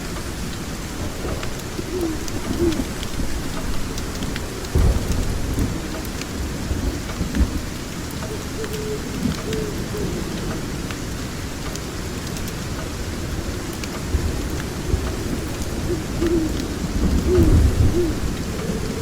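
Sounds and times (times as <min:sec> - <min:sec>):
low thunder rumble: 0:00.0 - 0:10.9, 0:13.0 - 0:19.0
sharp crackles or drips: 0:00.0 - 0:19.0
steady rain: 0:00.0 - 0:19.0.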